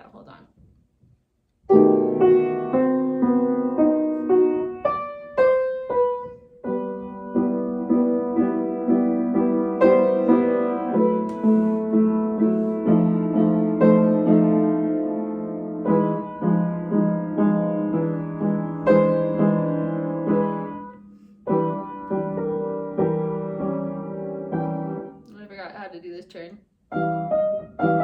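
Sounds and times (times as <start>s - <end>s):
solo piano piece: 1.6s - 25.3s, 26.9s - 28.0s.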